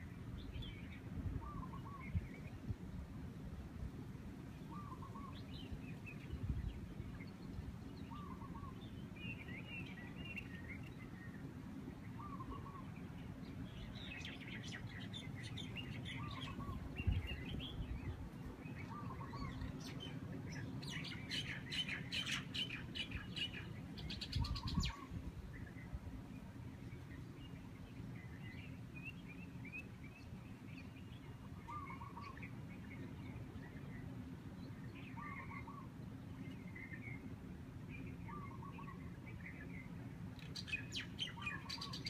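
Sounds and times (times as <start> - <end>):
low rumble of breeze: 0.0 - 42.0
birds chirping and calling: 0.4 - 2.6, 4.6 - 42.0.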